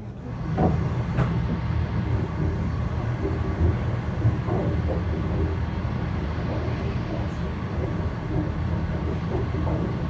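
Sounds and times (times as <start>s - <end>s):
train rumbling at speed: 0.0s - 10.0s.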